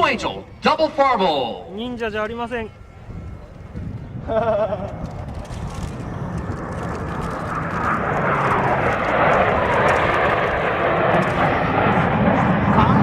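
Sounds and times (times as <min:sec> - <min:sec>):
jet roar overhead: 0:00.0 - 0:13.0.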